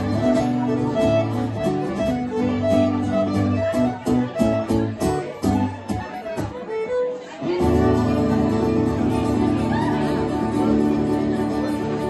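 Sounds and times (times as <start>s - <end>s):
acoustic guitar chords: 0.0s - 12.0s
bowed fiddle: 0.0s - 12.0s.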